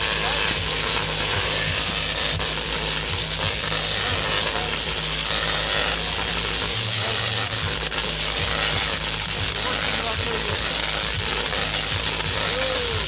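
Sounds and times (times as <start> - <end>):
electric arcs crackling and buzzing: 0.0 - 13.0.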